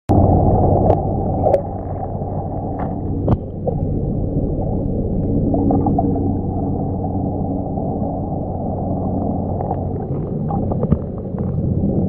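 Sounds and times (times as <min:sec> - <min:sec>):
muffled underwater stream rumble: 0:00.1 - 0:12.0.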